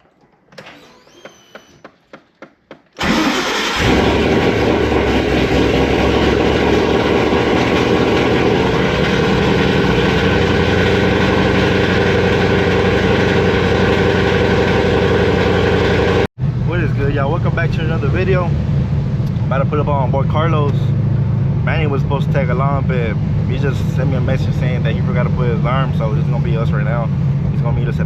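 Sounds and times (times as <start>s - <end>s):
car engine starting and idling: 2.9s - 28.0s.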